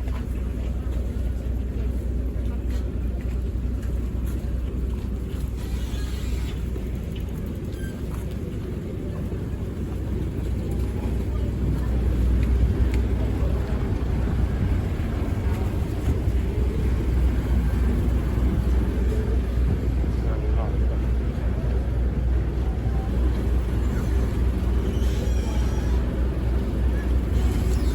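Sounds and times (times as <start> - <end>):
ferry engine rumbling: 0.0 - 27.9.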